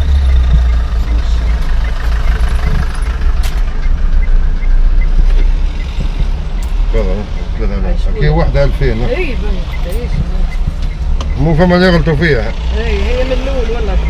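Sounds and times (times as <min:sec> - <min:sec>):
car idling inside cabin: 0:00.0 - 0:14.0.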